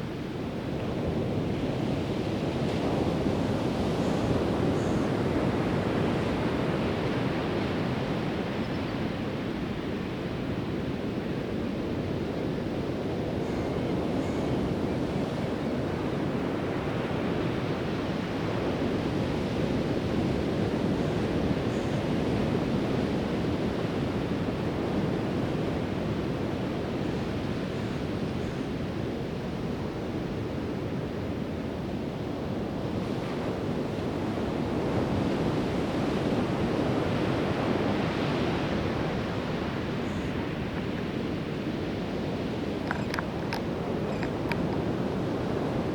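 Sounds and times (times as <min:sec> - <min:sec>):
wind on microphone: 0:00.0 - 0:45.9.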